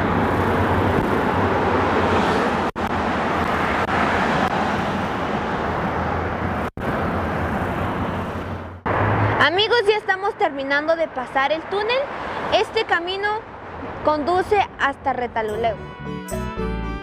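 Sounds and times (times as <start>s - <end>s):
traffic rushing in tunnel: 0.0s - 15.6s.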